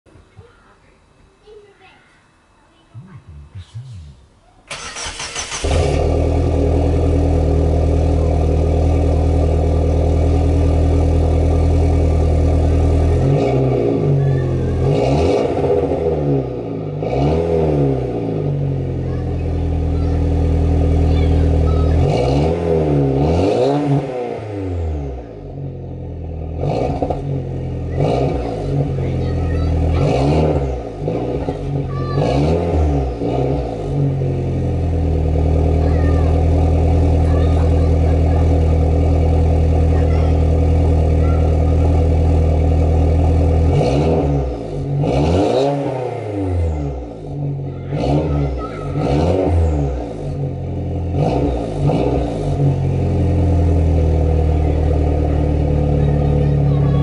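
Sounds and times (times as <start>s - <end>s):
car engine revving: 3.3s - 57.0s.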